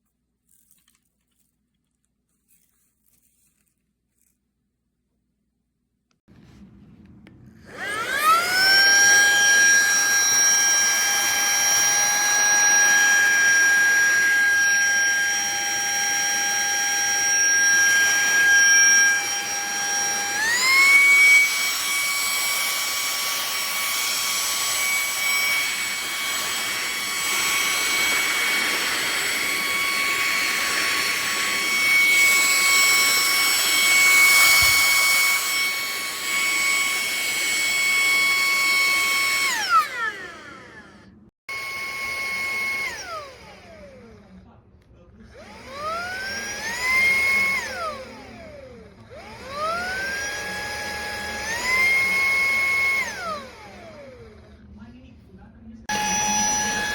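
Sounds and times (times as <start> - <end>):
handheld vacuum motor whine: 7.5 - 44.6, 45.3 - 54.7, 55.8 - 56.9.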